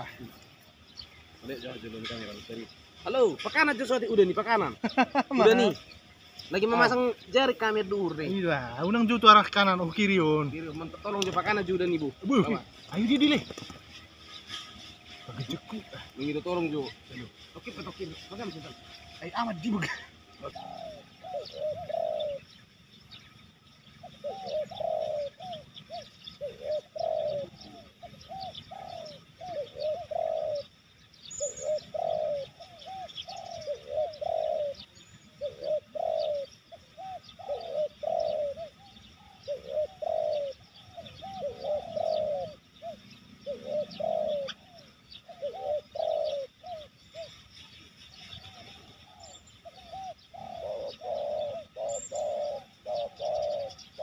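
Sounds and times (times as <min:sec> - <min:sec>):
doves cooing: 0:00.0 - 0:54.0
small birds chirping: 0:00.0 - 0:54.0.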